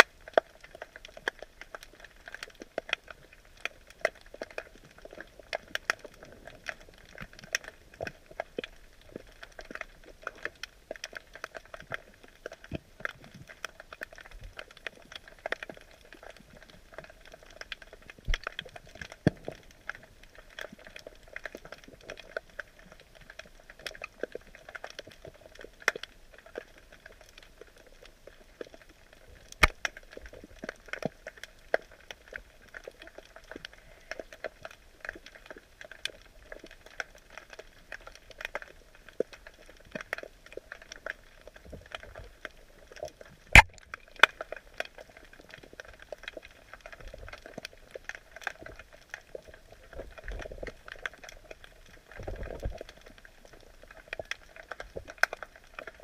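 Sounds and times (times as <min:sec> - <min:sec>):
underwater crackling clicks: 0:00.0 - 0:56.0.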